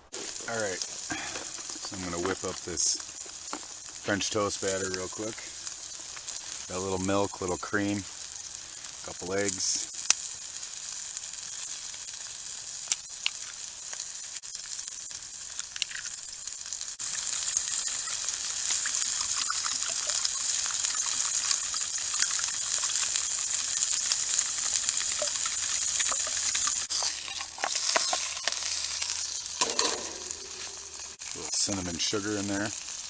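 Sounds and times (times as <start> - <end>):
sausages sizzling in a pan: 0.0 - 33.0.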